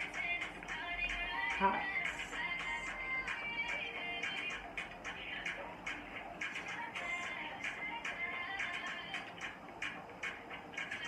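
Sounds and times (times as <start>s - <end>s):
background music with steady beat: 0.0s - 11.0s
ticking hi-hat: 0.0s - 11.0s.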